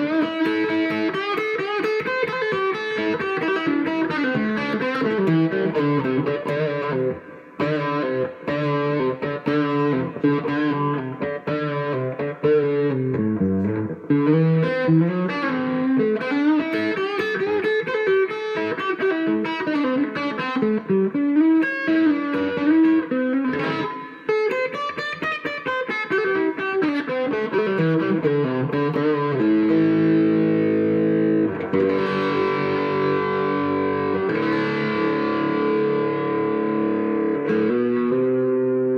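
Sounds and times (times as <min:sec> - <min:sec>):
electric guitar through amplifier: 0:00.0 - 0:38.9.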